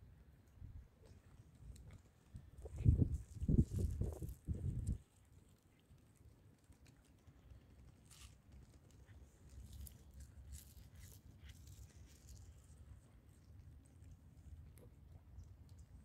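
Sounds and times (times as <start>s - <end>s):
cat chewing food: 1.0s - 16.0s.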